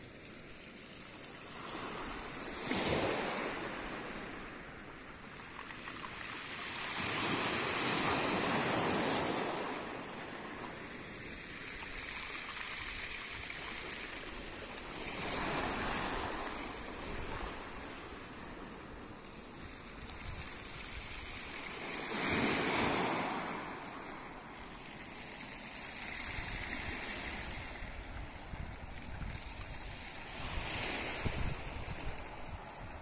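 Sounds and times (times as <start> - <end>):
waves washing over pebbles: 0.0 - 33.0.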